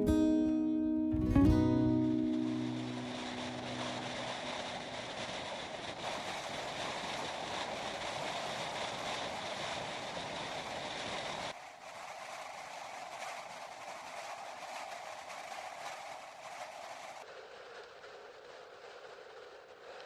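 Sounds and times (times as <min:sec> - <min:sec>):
train rushing at speed: 0:01.3 - 0:20.0.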